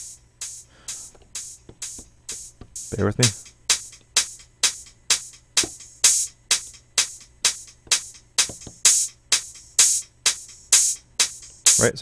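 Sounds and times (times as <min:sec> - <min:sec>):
drum machine hi-hat loop: 0:00.0 - 0:12.0.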